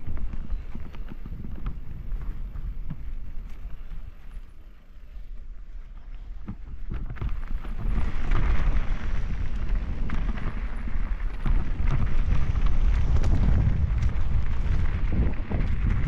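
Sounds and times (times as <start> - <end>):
wind rushing over microphone: 0.0 - 4.3, 5.3 - 16.0
bike knocking and rattling: 0.0 - 16.0
tyres rolling over dirt and stones: 0.0 - 16.0.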